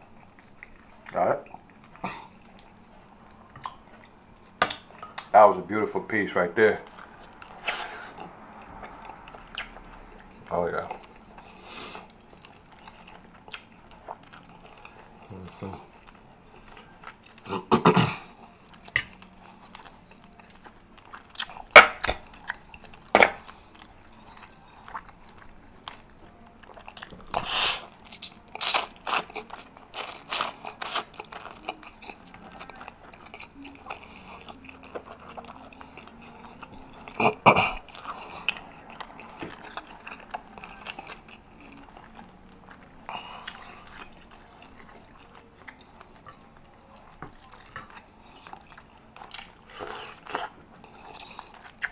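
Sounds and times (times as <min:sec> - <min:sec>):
wet chewing and crunchy bites: 0:06.6 - 0:17.7, 0:18.3 - 0:51.9.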